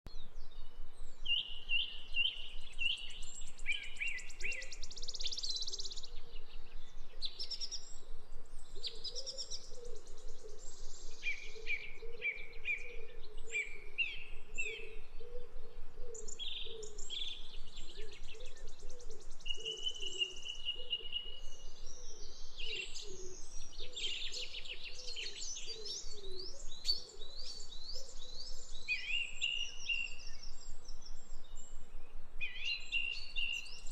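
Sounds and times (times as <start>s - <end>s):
small birds chirping and trilling: 0.1s - 33.9s.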